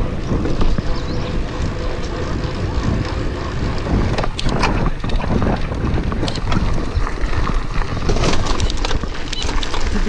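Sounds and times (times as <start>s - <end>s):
bicycle tyre noise: 0.0s - 10.0s
bike clicking and rattling: 0.0s - 10.0s
wind rushing over microphone: 0.0s - 10.0s.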